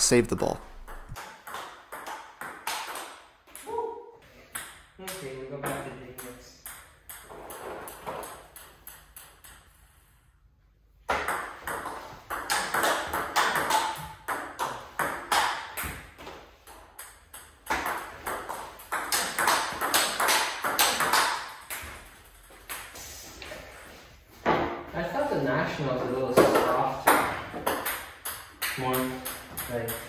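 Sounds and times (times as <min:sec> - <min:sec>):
table tennis ball rally: 0:00.0 - 0:09.9, 0:11.0 - 0:23.0, 0:26.0 - 0:30.0.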